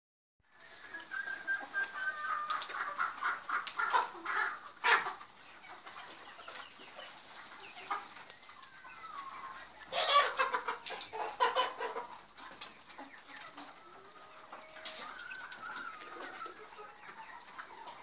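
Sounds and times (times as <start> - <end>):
chickens clucking and peeping: 0.5 - 18.0.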